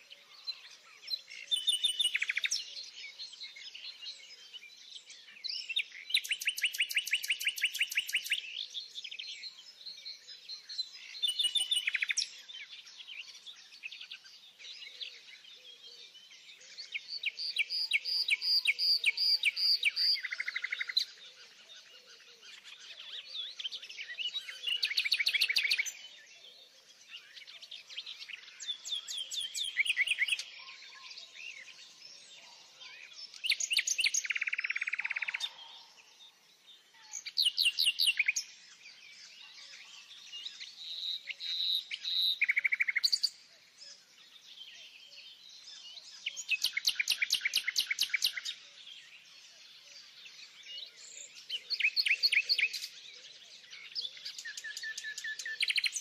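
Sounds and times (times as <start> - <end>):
soft bird chirps: 0.0 - 56.0
songbirds trilling: 0.0 - 56.0.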